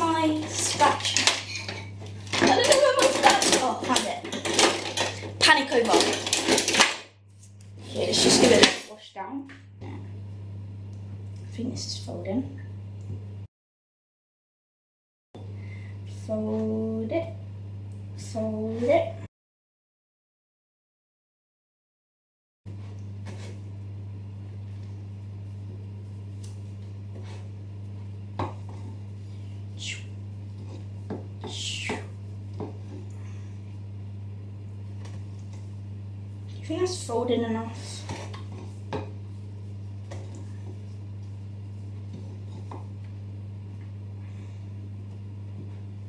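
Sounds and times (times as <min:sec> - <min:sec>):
low electrical hum: 0:00.0 - 0:13.5, 0:15.4 - 0:19.3, 0:22.7 - 0:46.0.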